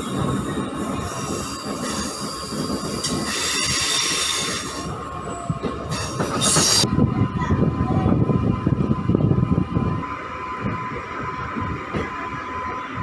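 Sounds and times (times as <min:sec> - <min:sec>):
train wheels squealing on rails: 0:00.0 - 0:08.2, 0:09.9 - 0:13.0
train rumble and clatter: 0:00.0 - 0:13.0.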